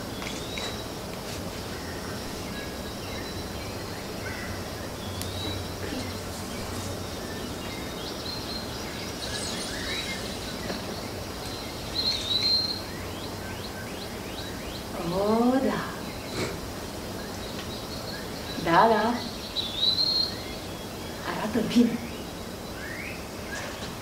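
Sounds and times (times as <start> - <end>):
bird chirps and calls: 0.0 - 23.9
steady hiss: 0.0 - 24.0.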